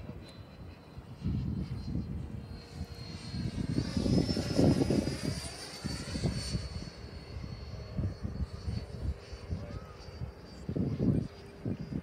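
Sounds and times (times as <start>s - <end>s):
model jet fan whine: 0.0s - 12.0s
wind on microphone: 0.0s - 12.0s.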